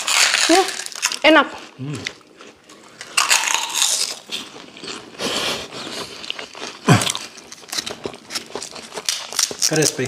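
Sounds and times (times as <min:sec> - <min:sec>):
crunching crisp crackers: 0:00.0 - 0:10.0.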